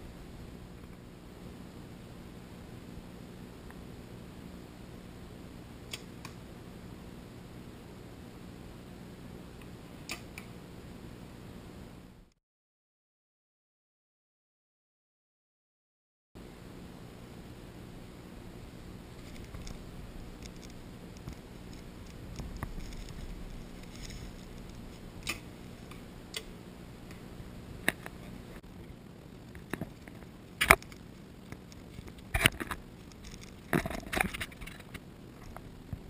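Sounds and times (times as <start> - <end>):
quiet hiss: 0.0 - 12.4, 16.4 - 36.0.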